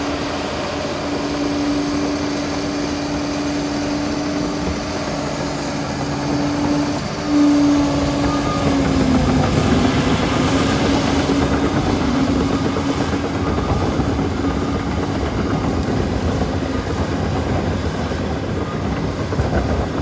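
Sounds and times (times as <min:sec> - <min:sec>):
bulldozer engine whine: 0:00.0 - 0:20.0
rough mechanical rumble: 0:00.0 - 0:20.0.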